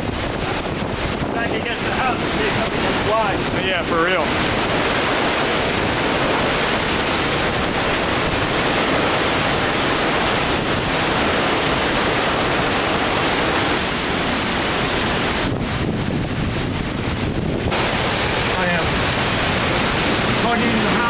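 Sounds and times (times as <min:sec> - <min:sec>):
strong wind through trees: 0:00.0 - 0:21.0.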